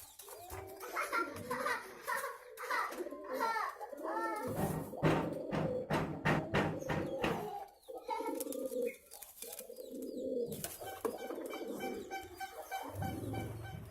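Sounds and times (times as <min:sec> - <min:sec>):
pigeons cooing: 0:00.0 - 0:13.9.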